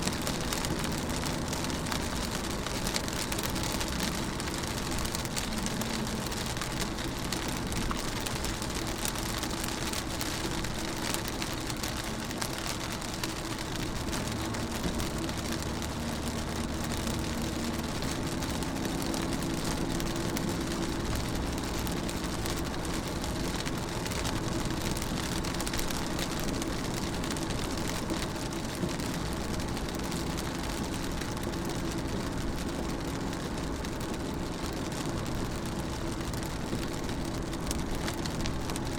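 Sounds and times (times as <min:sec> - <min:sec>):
rain pattering on car window: 0:00.0 - 0:38.9.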